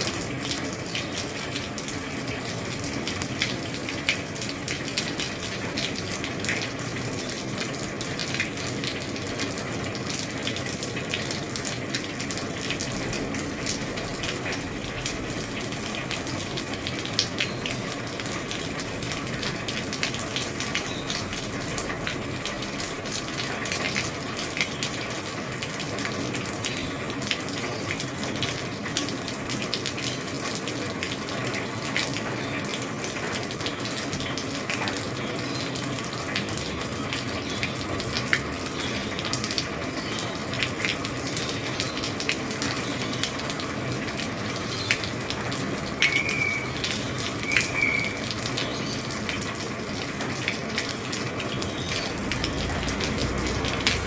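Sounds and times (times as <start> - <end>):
rain falling on a roof: 0.0 - 54.0.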